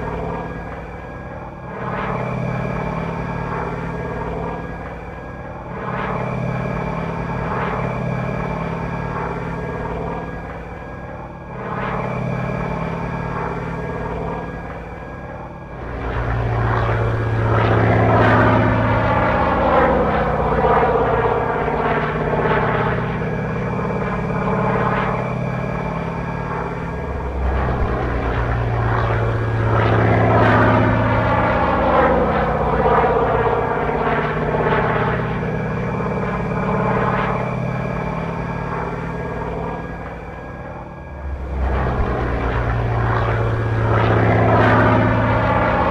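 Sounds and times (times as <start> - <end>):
model plane propeller noise: 0.0 - 45.9
radial engine sound effect: 0.0 - 45.9.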